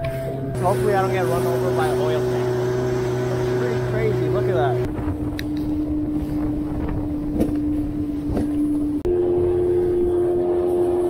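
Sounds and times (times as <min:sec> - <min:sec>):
motorboat motor whine: 0:00.0 - 0:11.0
wind: 0:00.0 - 0:11.0
water noise: 0:00.3 - 0:11.0.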